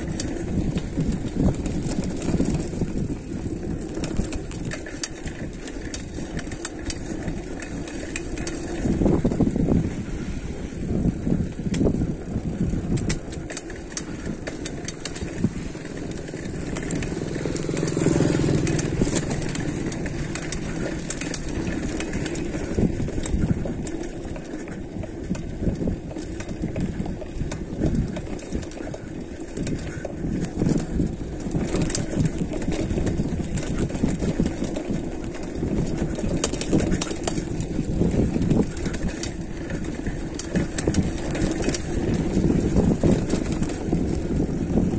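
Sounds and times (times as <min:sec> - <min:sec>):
bike rattling and clicking: 0:00.0 - 0:44.9
bike tyres on loose ground: 0:00.0 - 0:44.9.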